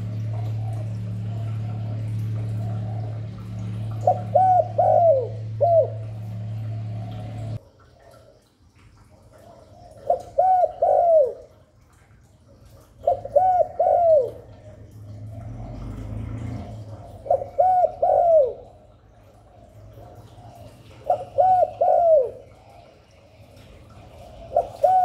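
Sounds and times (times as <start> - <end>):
dove cooing: 0.0 - 11.9, 12.6 - 25.0
low steady hum: 0.0 - 25.0.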